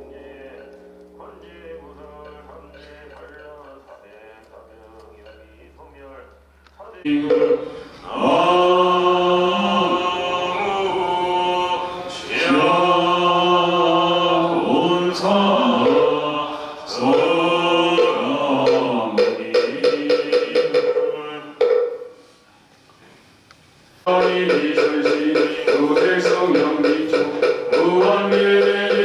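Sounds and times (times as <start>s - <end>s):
slow chanted singing: 0.0s - 4.5s, 7.0s - 22.5s, 24.0s - 29.0s.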